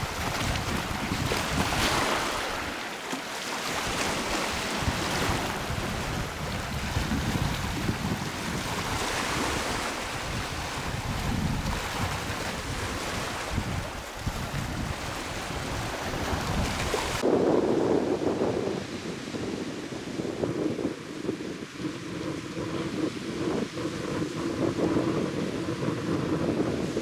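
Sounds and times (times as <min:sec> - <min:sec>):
sea surf washing in: 0:00.0 - 0:27.0
wind gusting on microphone: 0:00.0 - 0:27.0.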